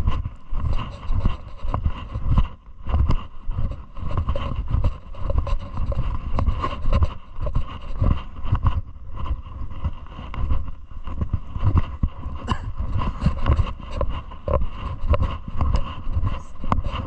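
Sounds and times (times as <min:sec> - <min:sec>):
footsteps on path: 0:00.0 - 0:17.0
wind rumbling on microphone: 0:00.0 - 0:17.0.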